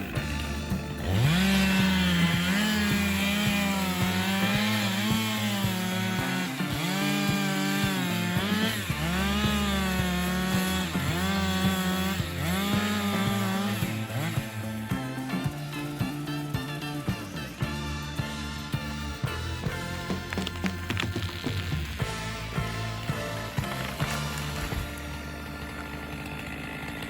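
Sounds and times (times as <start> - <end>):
chainsaw revving and cutting: 0.0 - 27.0.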